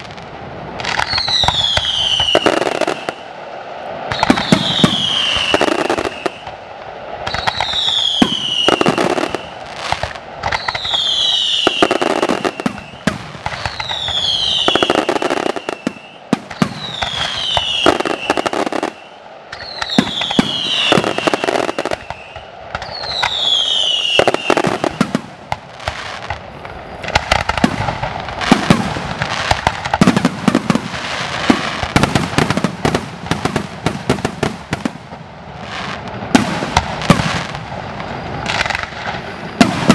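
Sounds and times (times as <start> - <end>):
fireworks bangs and crackling: 0.0 - 39.9
falling firework whistle: 0.8 - 35.0, 35.7 - 39.9.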